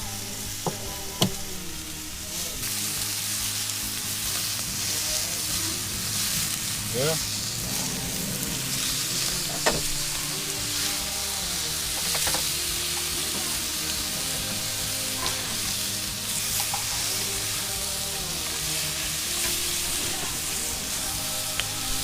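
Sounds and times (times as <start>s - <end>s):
sausages and bacon sizzling: 0.0s - 22.0s.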